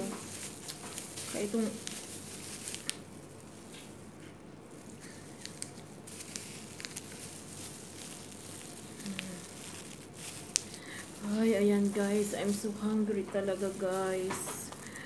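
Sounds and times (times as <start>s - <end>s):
plastic gloves and paper rustling: 0.0s - 15.0s.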